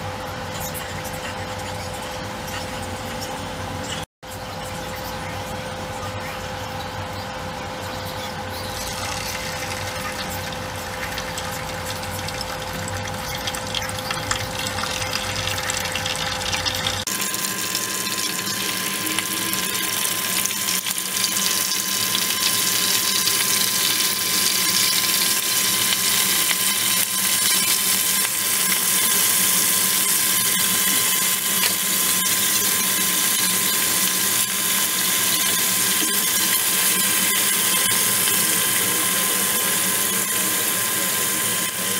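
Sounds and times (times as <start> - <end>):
chicken deep-frying in oil: 0.0 - 41.9.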